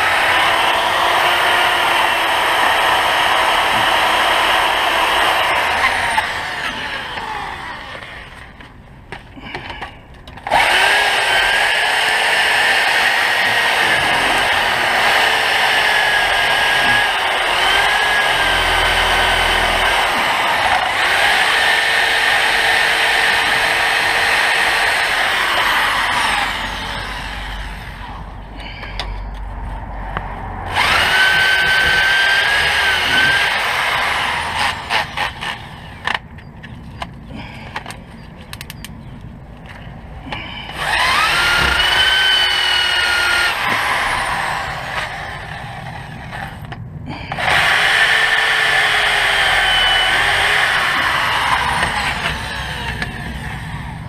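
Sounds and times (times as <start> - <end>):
power tool motor running: 0.0 - 8.4, 10.4 - 28.8, 30.7 - 36.0, 40.3 - 46.6, 47.2 - 53.7.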